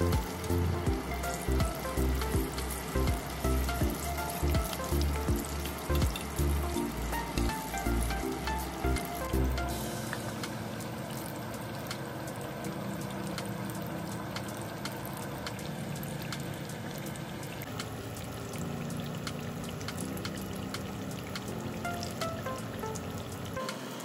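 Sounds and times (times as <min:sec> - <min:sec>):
slices deep-frying in hot oil: 0:00.0 - 0:24.0.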